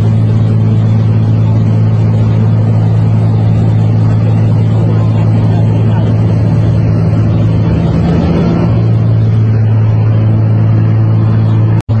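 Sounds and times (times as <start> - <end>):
aircraft engine drone in cabin: 0.0 - 12.0.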